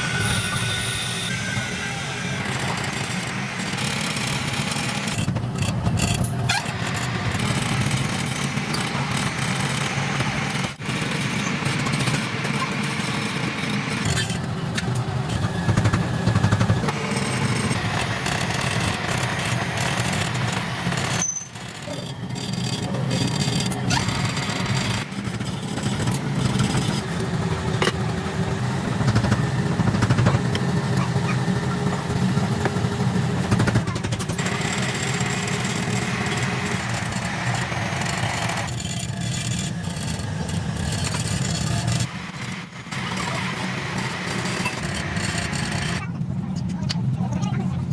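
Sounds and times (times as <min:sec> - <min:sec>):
motor running: 0:00.0 - 0:46.1.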